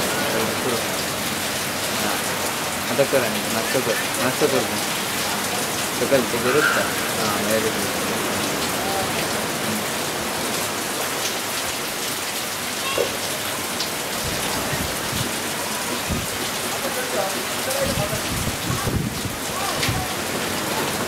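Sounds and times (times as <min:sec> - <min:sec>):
rain pouring onto a pool: 0:00.0 - 0:21.0.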